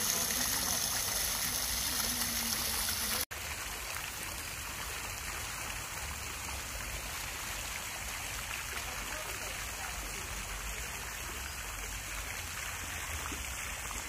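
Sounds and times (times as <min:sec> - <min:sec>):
fountain jets splashing into pool: 0:00.0 - 0:14.0
soft steady rushing water: 0:00.0 - 0:14.0.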